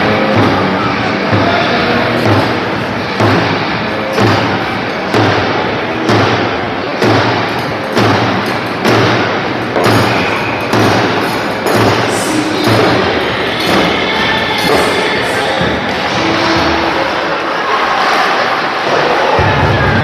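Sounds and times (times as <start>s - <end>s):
loud noisy background: 0.0s - 20.0s
thuds: 0.2s - 17.0s.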